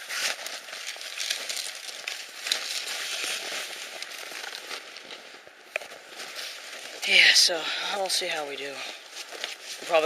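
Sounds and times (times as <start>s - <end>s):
crackling rustling noise: 0.0s - 10.0s.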